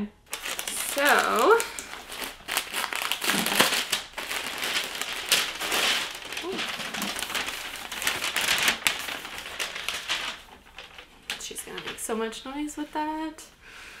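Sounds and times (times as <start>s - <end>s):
cardboard packaging rustling: 0.3s - 12.4s.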